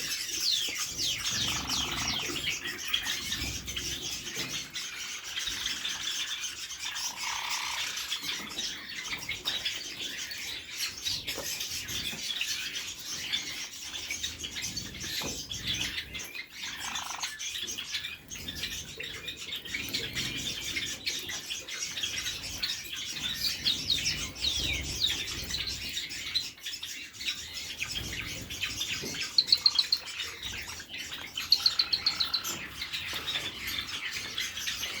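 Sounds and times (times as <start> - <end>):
cage birds chirping: 0.0 - 35.0.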